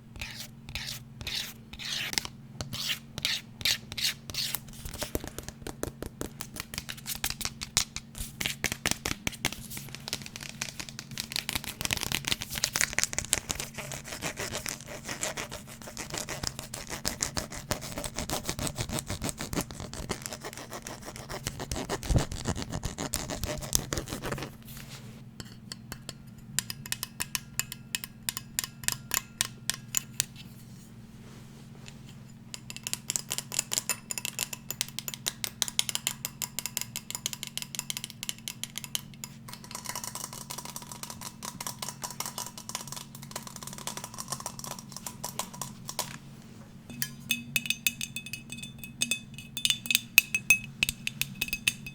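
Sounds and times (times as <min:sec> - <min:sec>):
scratching and tapping on hard object: 0:00.2 - 0:24.6, 0:32.6 - 0:46.2, 0:46.9 - 0:51.9.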